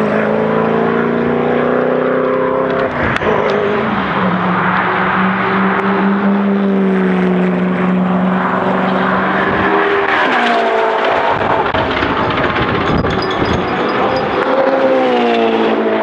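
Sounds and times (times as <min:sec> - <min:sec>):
car engine passing at speed: 0:00.0 - 0:12.2, 0:14.2 - 0:16.0.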